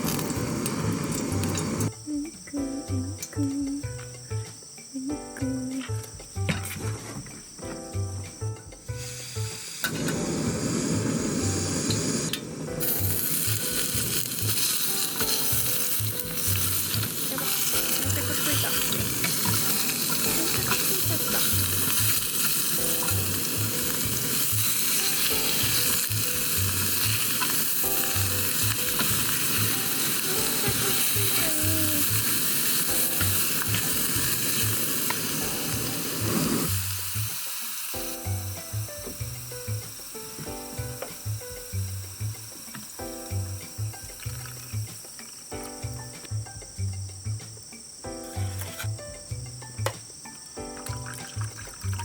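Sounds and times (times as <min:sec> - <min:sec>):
food sizzling in a pan: 0:00.0 - 0:52.0
background music with steady beat: 0:00.3 - 0:52.0.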